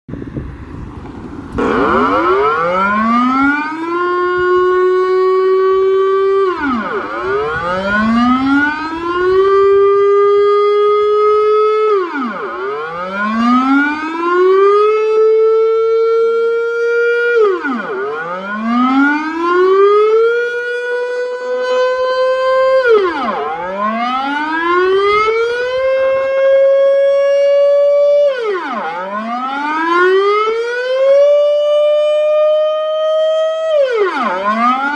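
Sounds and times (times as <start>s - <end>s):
air raid siren wailing: 0.1s - 34.9s.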